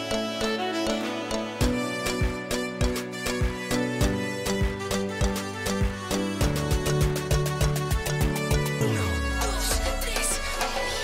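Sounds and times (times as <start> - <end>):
string instrument melody: 0.0 - 11.0.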